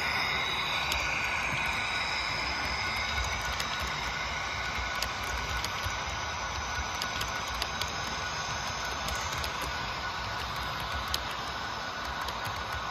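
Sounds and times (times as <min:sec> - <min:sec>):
faint high whine: 0:00.0 - 0:12.9
model train rolling rumble: 0:00.0 - 0:12.9
wheels clicking over rail joints: 0:02.6 - 0:12.9.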